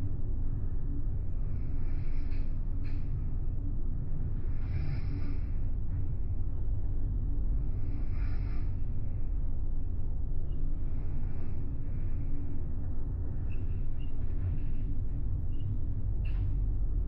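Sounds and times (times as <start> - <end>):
ship engine low rumble: 0.0 - 17.0.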